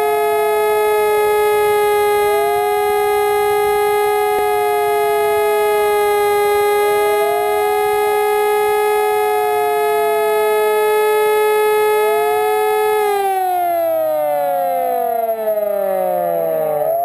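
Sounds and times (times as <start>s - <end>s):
sirens wailing: 0.0s - 17.0s
steady siren tone: 0.0s - 17.0s.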